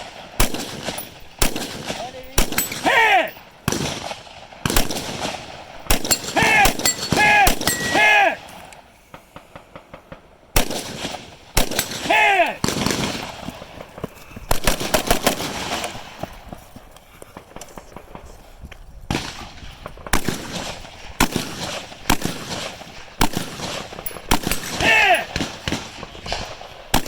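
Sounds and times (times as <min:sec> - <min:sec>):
rifle gunshots: 0:00.0 - 0:08.5, 0:10.6 - 0:16.2, 0:19.1 - 0:27.0.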